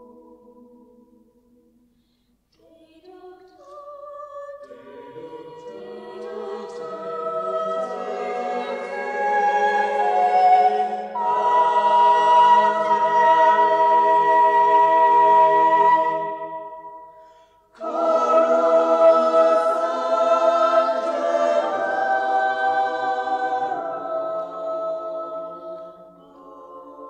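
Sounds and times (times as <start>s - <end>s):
choir singing choral piece: 0.0s - 1.0s, 2.7s - 27.0s.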